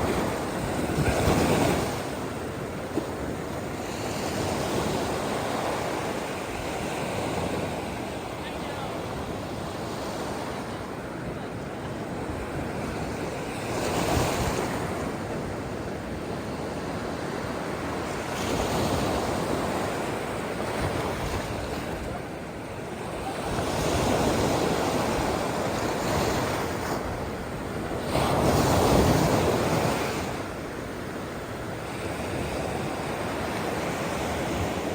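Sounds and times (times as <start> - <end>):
ocean surf breaking: 0.0 - 34.9.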